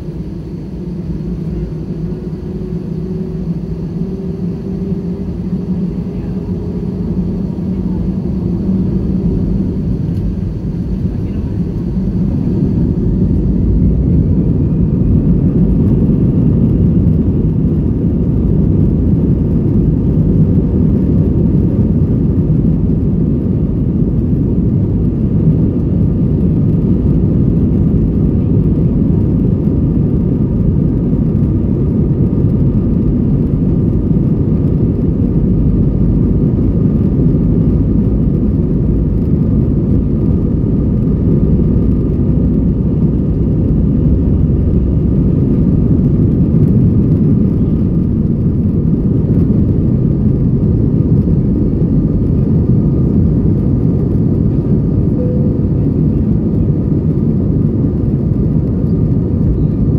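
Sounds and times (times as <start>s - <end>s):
faint engine whine: 0.0s - 59.9s
jet engines low rumble: 0.0s - 59.9s.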